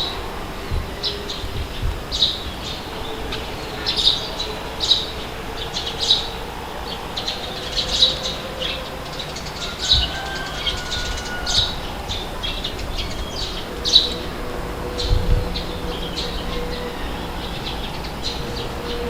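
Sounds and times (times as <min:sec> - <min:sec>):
small birds chirping: 0:00.0 - 0:19.0
wind rushing: 0:00.0 - 0:19.0.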